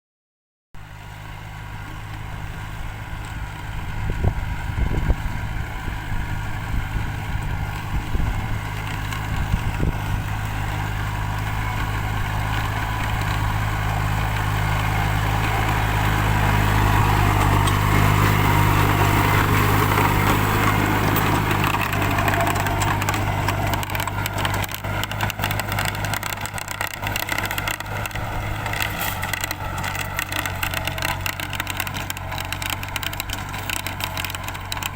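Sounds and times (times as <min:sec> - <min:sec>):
tractor engine running: 0:00.8 - 0:34.9.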